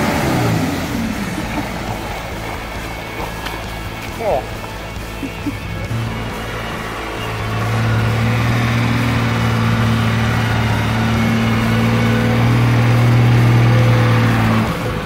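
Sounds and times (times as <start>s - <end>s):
winch and engine droning: 0.0s - 15.0s.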